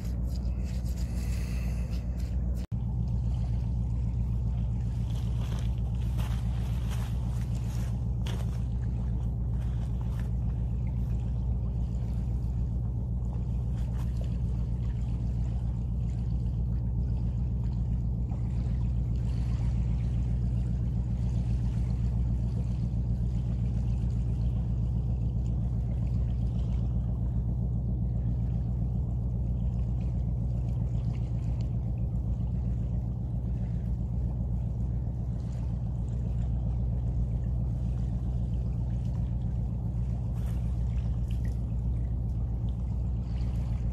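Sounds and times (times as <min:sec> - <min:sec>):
distant machinery drone: 0:00.0 - 0:43.9.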